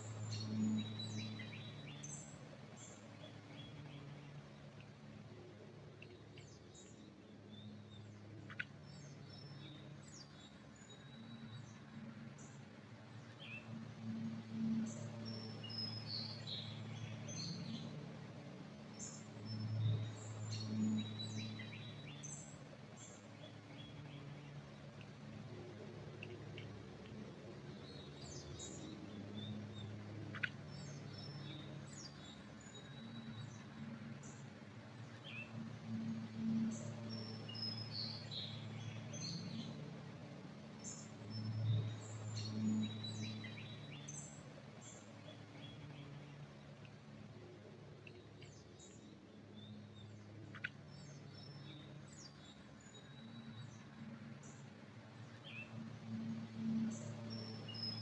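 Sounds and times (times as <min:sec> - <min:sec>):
low steady hum: 0:00.0 - 0:58.0
small birds chirping faintly: 0:00.0 - 0:58.0.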